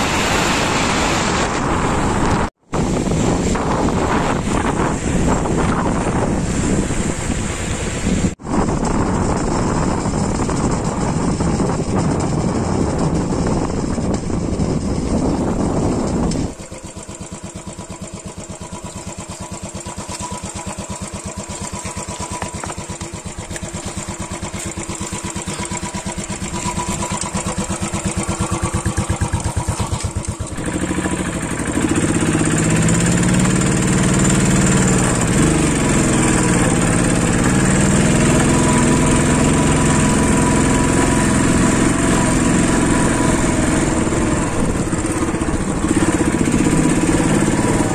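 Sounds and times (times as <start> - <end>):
motorcycle engine beating: 0.0 - 47.9
wind noise while riding: 0.0 - 47.9.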